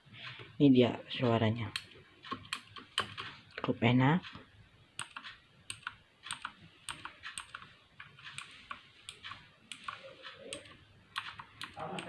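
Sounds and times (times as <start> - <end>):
mechanical keyboard typing: 1.2 - 12.0.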